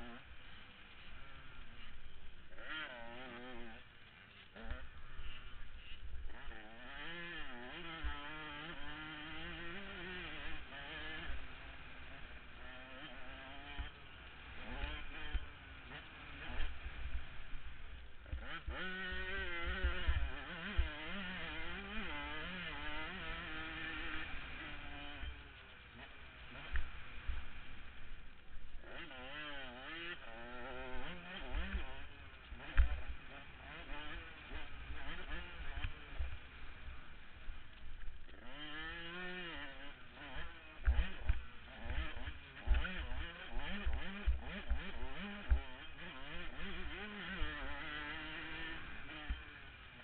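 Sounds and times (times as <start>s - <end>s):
motocross engine revving: 0.0s - 50.0s.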